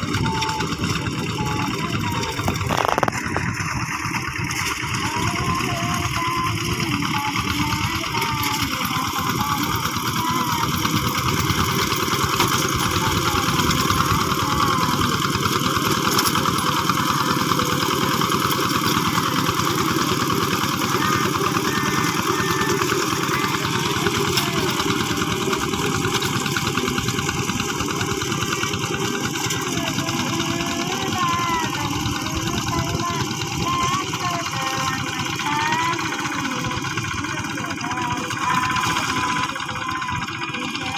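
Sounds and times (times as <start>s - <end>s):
hand tractor diesel engine running: 0.0s - 40.9s.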